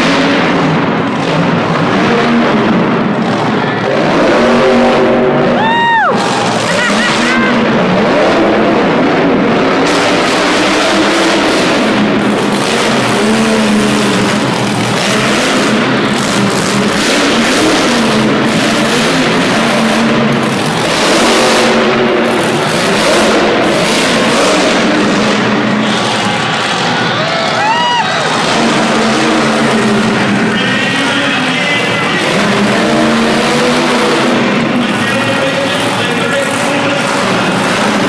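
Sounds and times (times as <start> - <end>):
monster truck engines revving: 0.0 - 38.0.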